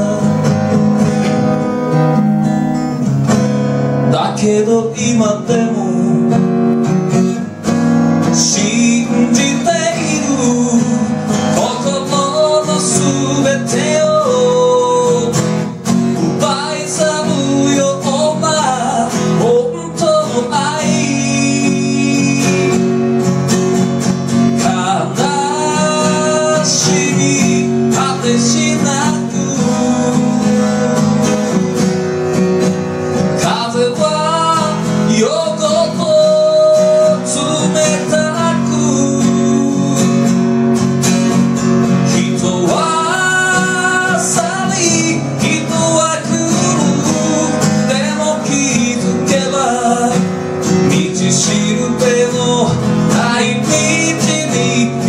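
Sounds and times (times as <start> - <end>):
man singing a ballad: 0.0 - 1.2, 4.0 - 6.5, 8.2 - 23.2, 24.5 - 31.6, 33.3 - 40.7, 41.8 - 55.0
acoustic guitar strumming: 0.0 - 55.0.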